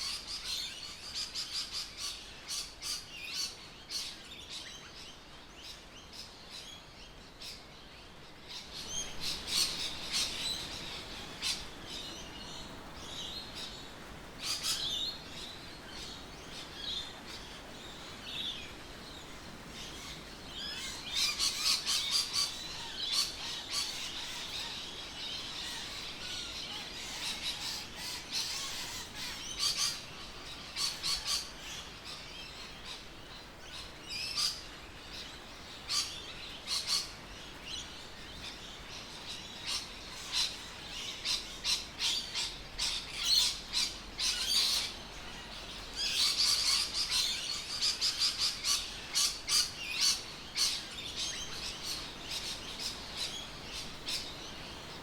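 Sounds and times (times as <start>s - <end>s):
birds chirping and squawking: 8.5s - 55.0s.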